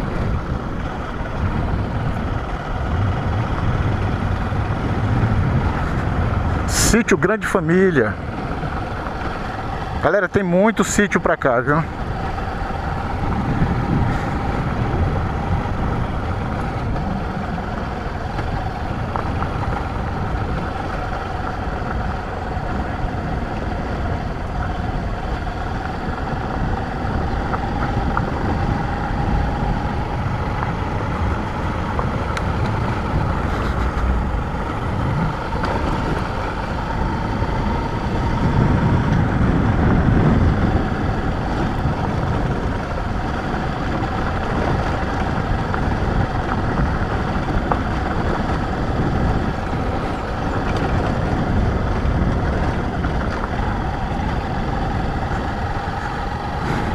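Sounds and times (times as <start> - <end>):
motorcycle engine cruising: 0.0 - 56.9
wind rumble on microphone: 0.0 - 56.9.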